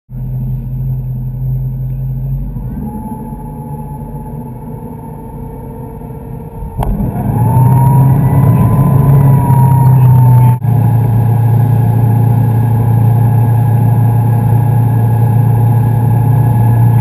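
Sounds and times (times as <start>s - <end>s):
boat engine running: 0.1s - 17.0s.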